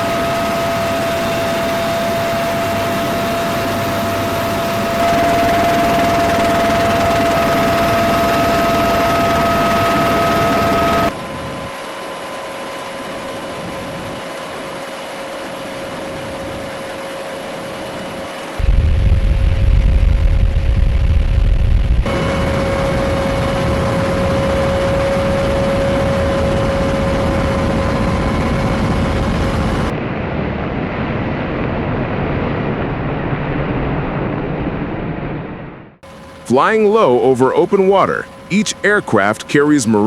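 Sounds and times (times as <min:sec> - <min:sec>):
jet turbine engines whining: 0:00.0 - 0:18.8, 0:19.9 - 0:30.3, 0:36.0 - 0:40.0.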